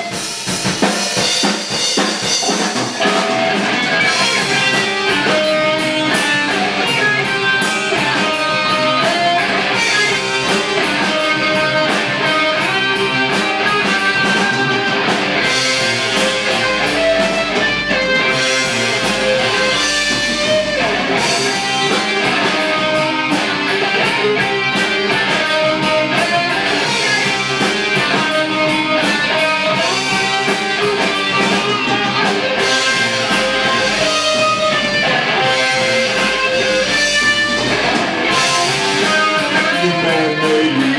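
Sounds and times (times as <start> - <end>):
electric bass: 0.0 - 40.9
electric guitar: 0.0 - 40.9.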